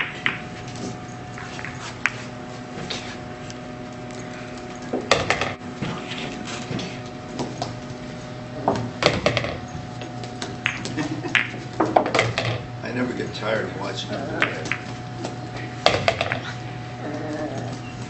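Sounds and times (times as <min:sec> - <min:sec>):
pool balls clacking: 0:00.0 - 0:03.1, 0:04.8 - 0:08.0, 0:08.6 - 0:17.9
faint steady hum: 0:00.0 - 0:18.0.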